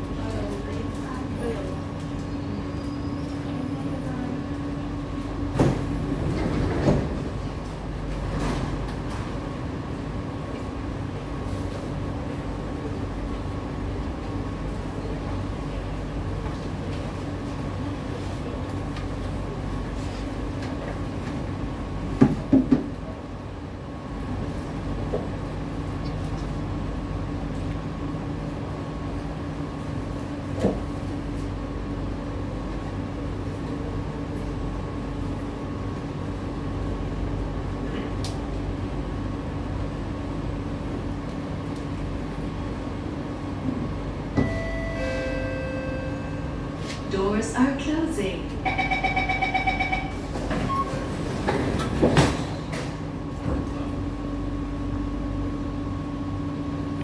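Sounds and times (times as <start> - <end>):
stationary train hum: 0.0 - 57.0.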